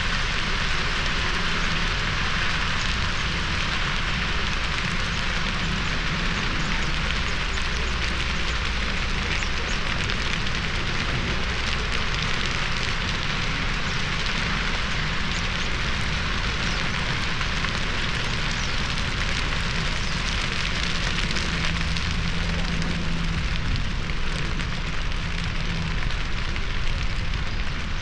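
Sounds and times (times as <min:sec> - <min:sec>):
dry grass fire crackling: 0:00.0 - 0:28.0.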